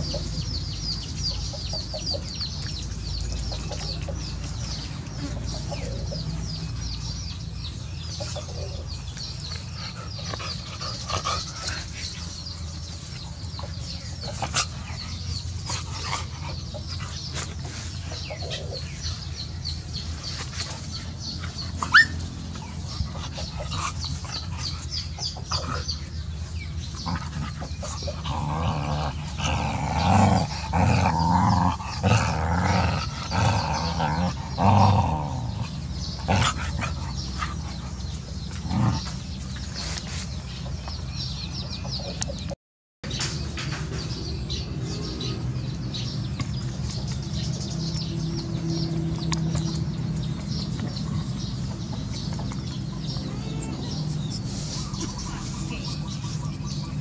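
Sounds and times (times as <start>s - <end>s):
chickens clucking: 0.0s - 35.1s, 35.8s - 45.2s, 46.0s - 57.0s
puppies making small dog sounds: 0.0s - 42.6s, 44.0s - 57.0s.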